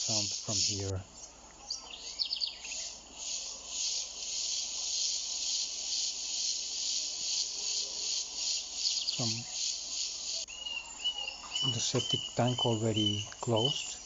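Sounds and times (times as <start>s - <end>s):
pulsing insect chorus: 0.0s - 14.0s.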